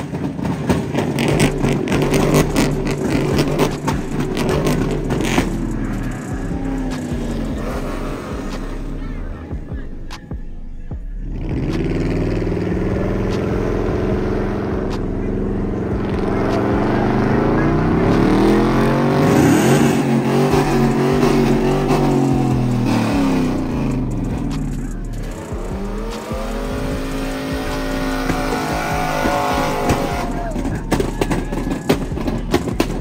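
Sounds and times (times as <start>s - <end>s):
truck engine revving: 0.0s - 33.0s.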